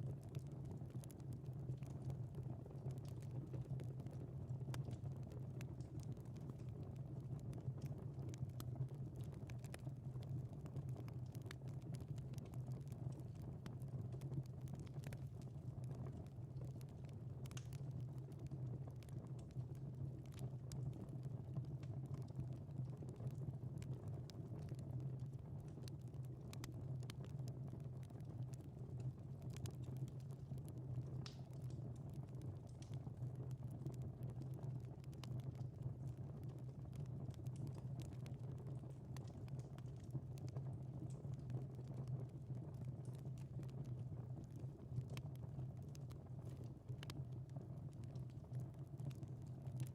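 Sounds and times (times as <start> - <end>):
fire crackling and popping: 0.0 - 49.9
low rumble of burning: 0.0 - 49.9.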